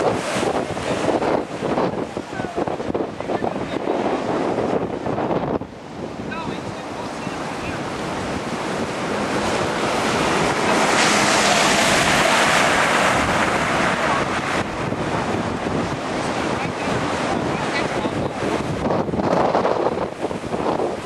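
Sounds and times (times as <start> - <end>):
heavy surf breaking: 0.0 - 21.0
wind buffeting microphone: 0.0 - 21.0.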